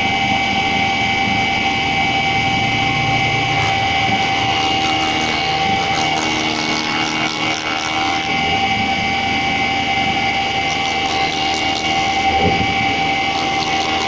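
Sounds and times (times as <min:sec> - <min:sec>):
spindle moulder high whine: 0:00.0 - 0:14.0.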